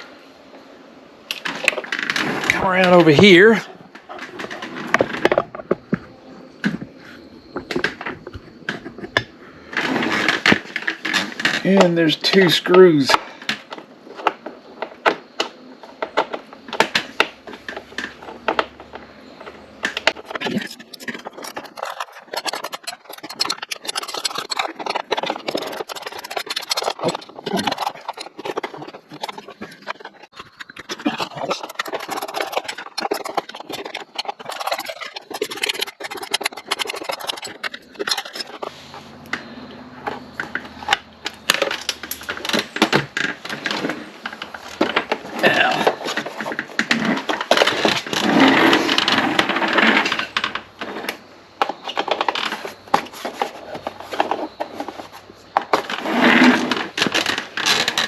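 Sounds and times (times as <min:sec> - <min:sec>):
hand tools clicking and scraping: 0:01.3 - 0:58.0.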